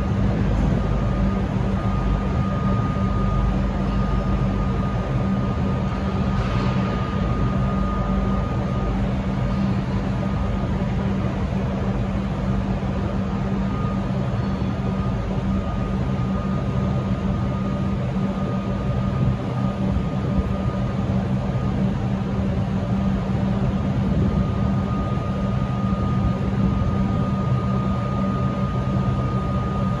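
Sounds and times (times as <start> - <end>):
diesel railcar engine drone: 0.0 - 30.0
high whine: 0.0 - 30.0.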